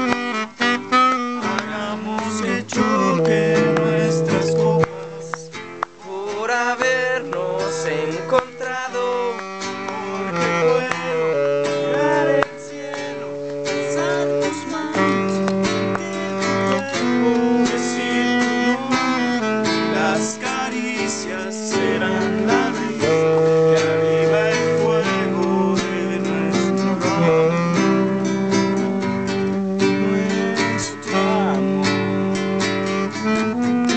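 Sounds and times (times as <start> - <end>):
acoustic guitar strumming chords: 0.0 - 33.9
held melody line: 0.0 - 33.9.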